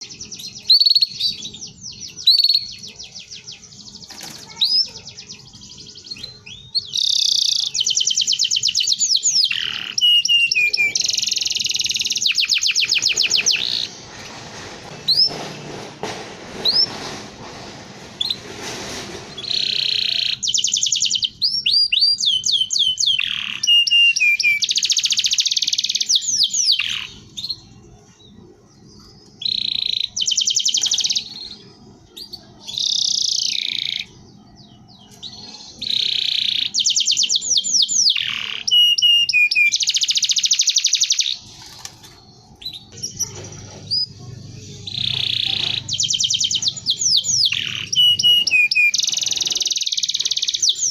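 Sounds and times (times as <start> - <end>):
canary singing trills and whistles: 0.0 - 14.0, 19.3 - 50.9.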